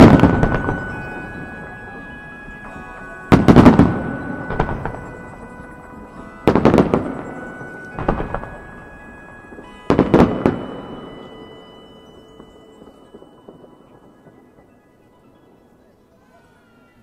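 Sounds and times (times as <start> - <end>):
fireworks bursting: 0.0 - 16.0
music playing: 0.0 - 17.0.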